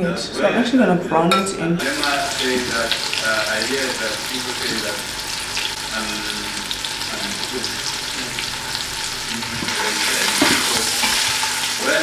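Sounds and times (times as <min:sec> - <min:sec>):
meat sizzling in hot oil: 0:01.8 - 0:12.0.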